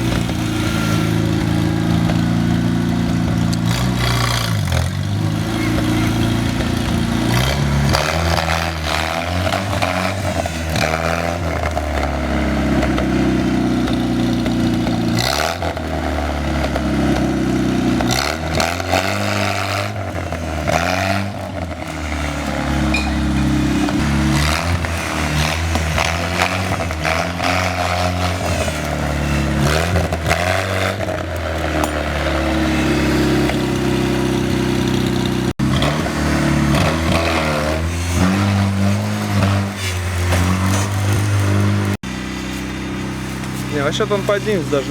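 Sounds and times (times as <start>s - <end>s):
engine knocks: 0.0s - 44.9s
engine revving: 0.0s - 44.9s.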